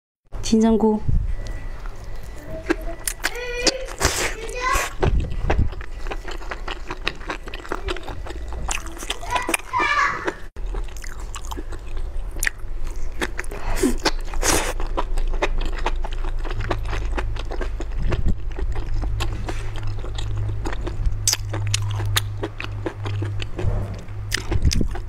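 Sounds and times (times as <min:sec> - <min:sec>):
low steady hum: 0:00.3 - 0:09.7, 0:10.6 - 0:25.0
biting and chewing food: 0:01.4 - 0:25.0.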